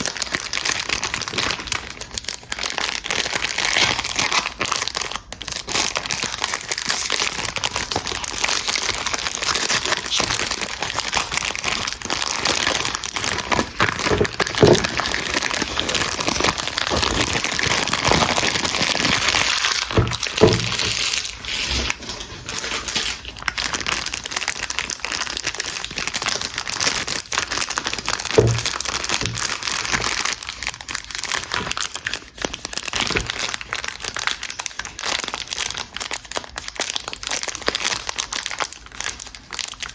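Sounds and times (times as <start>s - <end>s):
wrapper crinkling and rustling: 0.0s - 39.9s.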